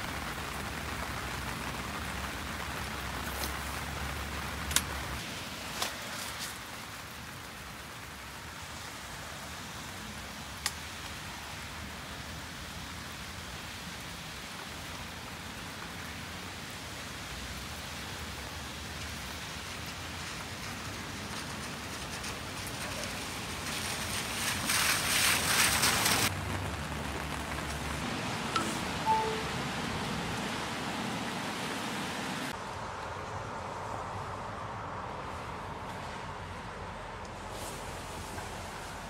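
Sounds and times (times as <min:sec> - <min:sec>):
rain falling on a tarp: 0:00.0 - 0:34.1, 0:34.9 - 0:39.0.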